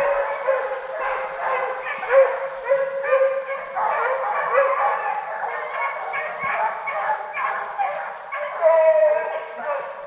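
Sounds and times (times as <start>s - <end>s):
hounds baying: 0.0s - 10.0s.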